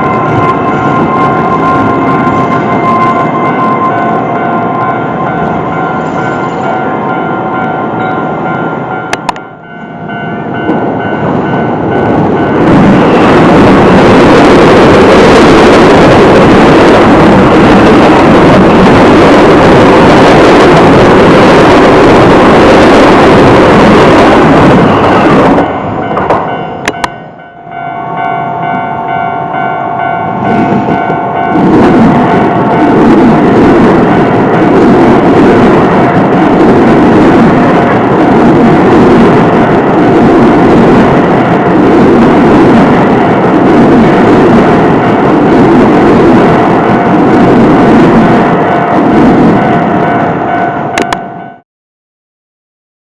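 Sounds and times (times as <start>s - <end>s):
level crossing warning bell: 0.0s - 34.9s, 43.0s - 51.6s
electric train passing: 0.0s - 51.6s.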